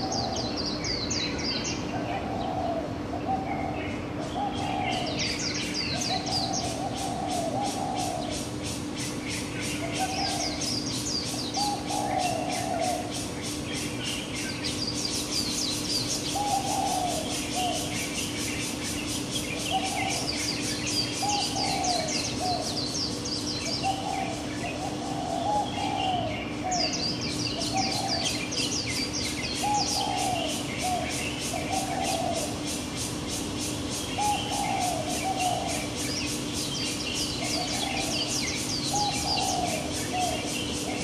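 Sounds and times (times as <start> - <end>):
bird repeating low calls: 0.0 - 41.0
birds chirping high: 0.0 - 41.0
steady low hum: 0.0 - 41.0.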